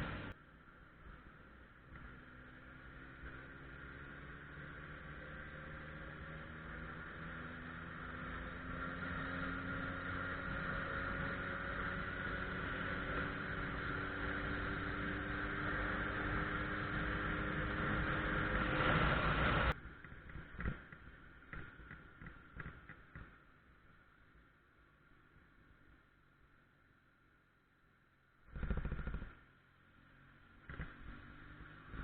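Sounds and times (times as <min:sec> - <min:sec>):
motorcycle engine accelerating: 0:00.0 - 0:00.4, 0:01.0 - 0:23.4, 0:28.4 - 0:32.0.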